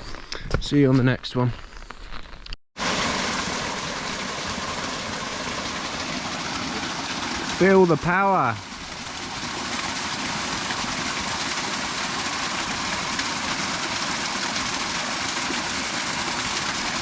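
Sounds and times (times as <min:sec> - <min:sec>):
torrent of rushing water: 0:02.8 - 0:17.0.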